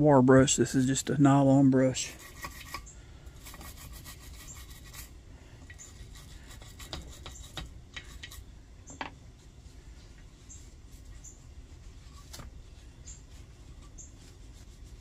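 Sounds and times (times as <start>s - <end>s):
brush scrubbing metal: 1.9s - 8.5s, 9.4s - 15.0s.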